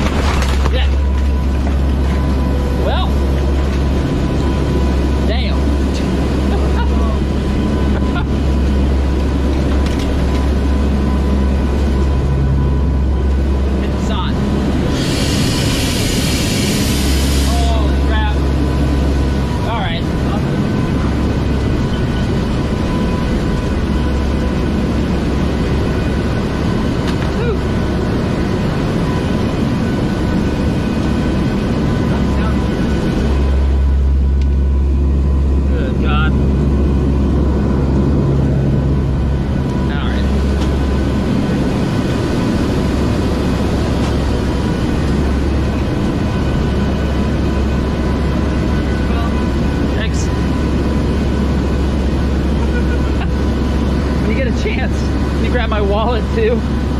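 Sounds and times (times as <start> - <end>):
aircraft engines droning in cabin: 0.0 - 56.9
faint steady tones: 0.8 - 56.9.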